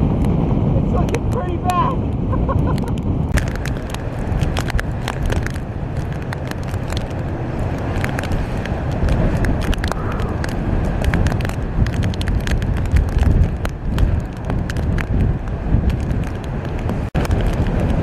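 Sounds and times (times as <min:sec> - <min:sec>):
wind buffeting microphone: 0:00.0 - 0:18.0
sharp clicks and crackles: 0:00.1 - 0:18.0.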